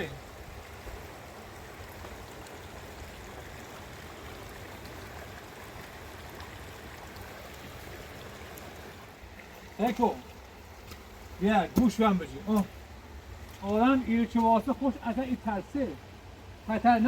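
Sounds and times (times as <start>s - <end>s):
running floodwater: 0.0s - 17.0s.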